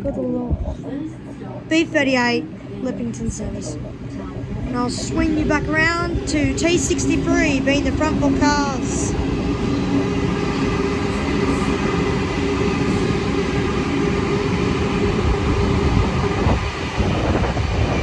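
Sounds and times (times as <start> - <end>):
train motor hum: 0.0 - 18.0
train wheels rumbling on rails: 0.0 - 18.0.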